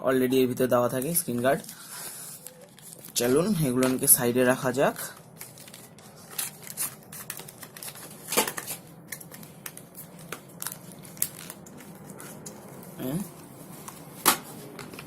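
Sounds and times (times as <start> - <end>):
paper and plastic rustling: 0.8 - 15.0.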